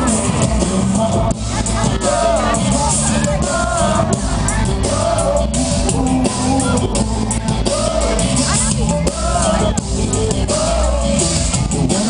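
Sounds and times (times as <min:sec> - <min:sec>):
drums: 0:00.0 - 0:12.0
live rock band through pa: 0:00.0 - 0:12.0.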